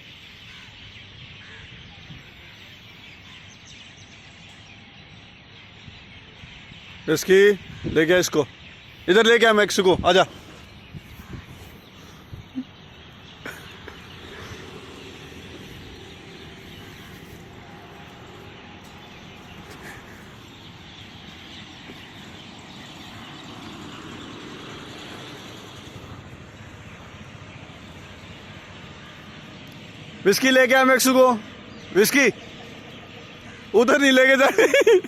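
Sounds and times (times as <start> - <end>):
distant traffic hum: 0.0 - 35.0.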